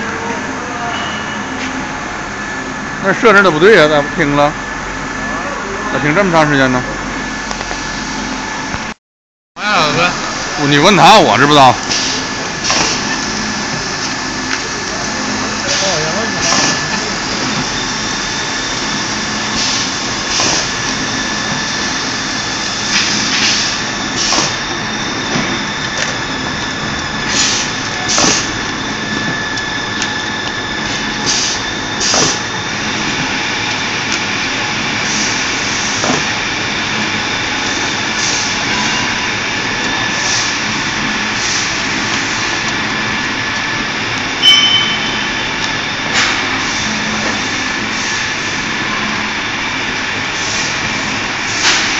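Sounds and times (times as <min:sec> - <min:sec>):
machine drone with high whine: 0:00.0 - 0:09.0, 0:09.6 - 0:51.9.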